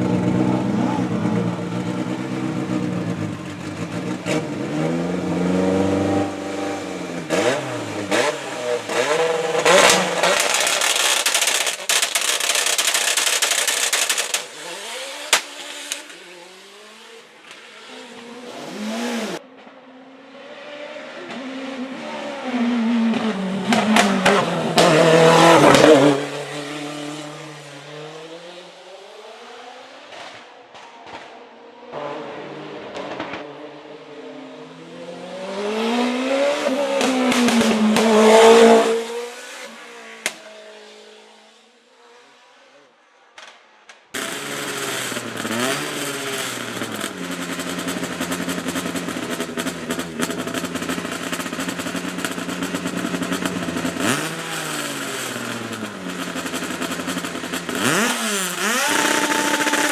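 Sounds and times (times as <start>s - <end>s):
race car engine at full throttle: 0.0s - 41.8s, 44.2s - 59.9s.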